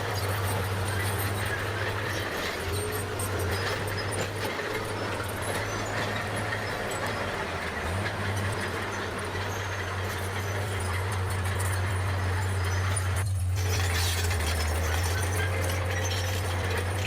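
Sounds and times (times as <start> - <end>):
bulldozer diesel engine droning: 0.0 - 17.0
machine rattle: 0.0 - 17.0.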